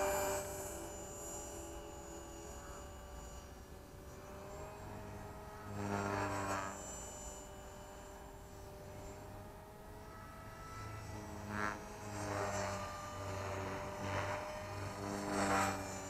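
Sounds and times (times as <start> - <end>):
rc helicopter rotor whine: 0.0 - 16.0.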